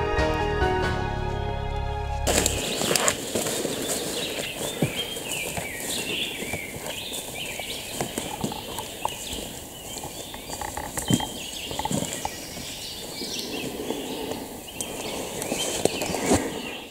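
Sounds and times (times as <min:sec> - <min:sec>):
songbirds chirping and trilling: 0:01.4 - 0:16.9
footsteps crunching through leaves: 0:02.2 - 0:16.9.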